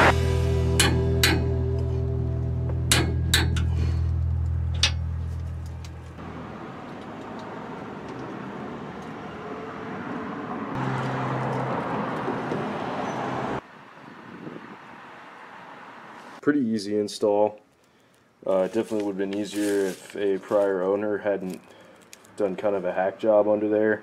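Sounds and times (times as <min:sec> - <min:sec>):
road traffic: 0:00.0 - 0:16.4, 0:17.6 - 0:24.0.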